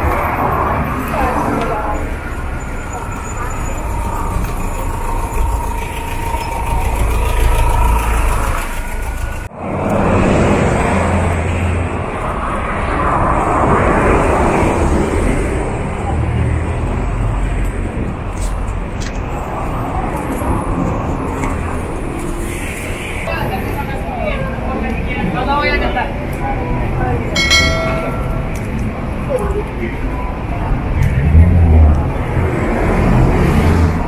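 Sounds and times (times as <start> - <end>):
passers-by talking: 0.0 - 9.4, 10.9 - 34.0
cars and buses passing: 0.0 - 34.0.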